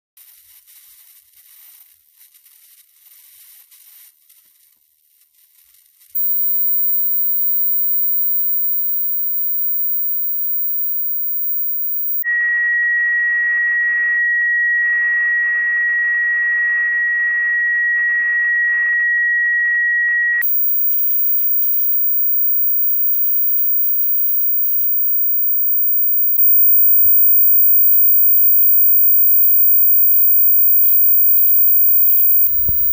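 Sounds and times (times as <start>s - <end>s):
steady high beep tone: 6.2s - 32.9s.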